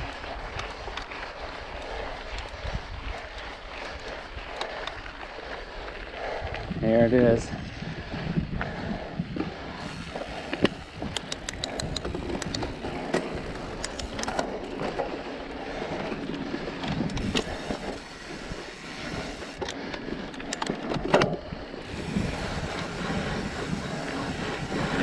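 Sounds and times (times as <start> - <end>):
bike rattling and clicking: 0.0 - 25.0
bike tyres on dirt: 0.0 - 25.0.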